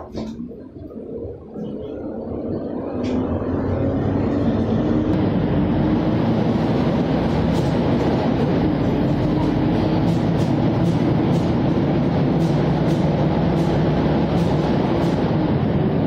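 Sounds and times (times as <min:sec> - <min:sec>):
bus engine from inside: 0:00.0 - 0:16.0.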